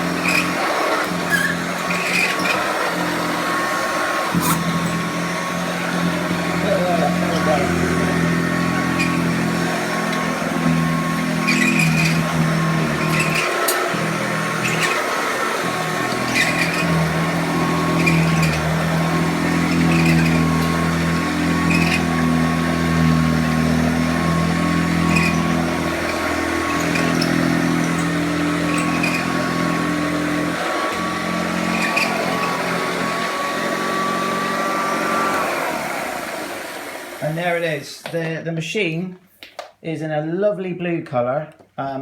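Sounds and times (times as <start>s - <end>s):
beater bar churning hum: 0.0s - 36.2s
vacuum cleaner motor whine: 0.0s - 37.8s.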